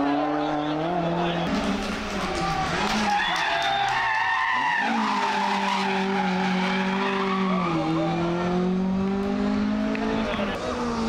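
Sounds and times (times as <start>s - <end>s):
rally car engine under load: 0.0s - 11.0s.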